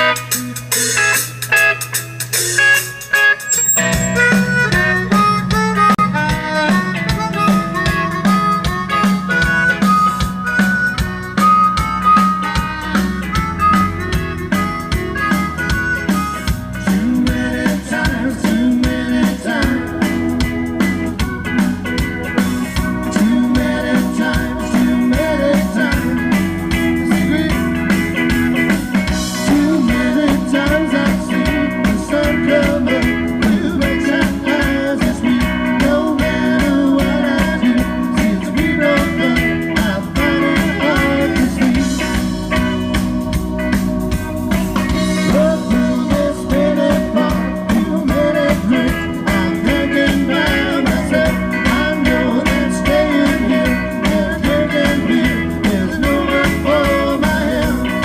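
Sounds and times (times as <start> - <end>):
bass guitar: 0.0 - 58.0
electric guitar: 0.0 - 58.0
steady drum beat: 0.0 - 58.0.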